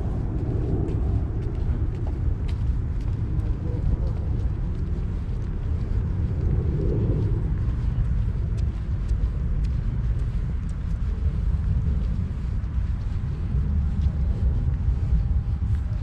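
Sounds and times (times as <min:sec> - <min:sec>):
faint footsteps on pavement: 0:00.0 - 0:16.0
low outdoor rumble: 0:00.0 - 0:16.0.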